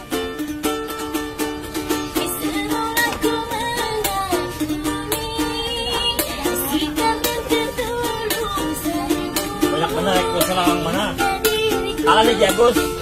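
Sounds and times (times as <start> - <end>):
ukulele strumming: 0.0 - 13.0
woman singing: 1.9 - 13.0.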